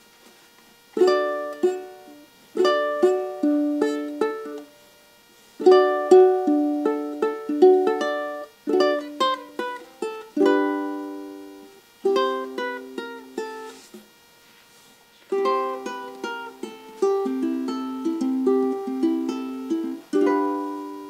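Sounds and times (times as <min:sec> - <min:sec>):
fingerpicked ukulele: 0:01.0 - 0:04.8, 0:05.6 - 0:14.0, 0:15.3 - 0:21.0.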